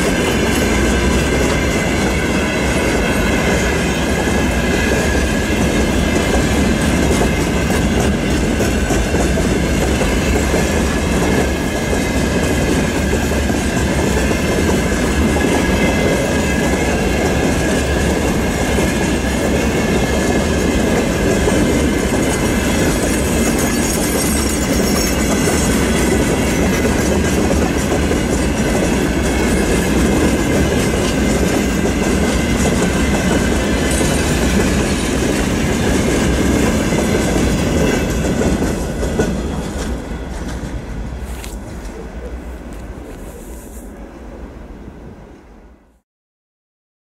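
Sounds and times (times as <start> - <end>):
train wheels clattering on rails: 0.0 - 43.0.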